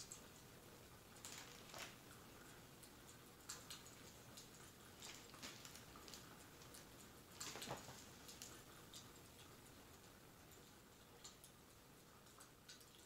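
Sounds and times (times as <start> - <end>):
wood fire crackling: 0.2 - 11.4.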